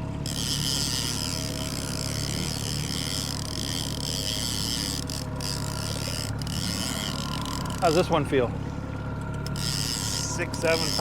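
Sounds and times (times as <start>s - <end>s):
boat motor humming: 0.0s - 11.0s
water noise: 0.0s - 11.0s.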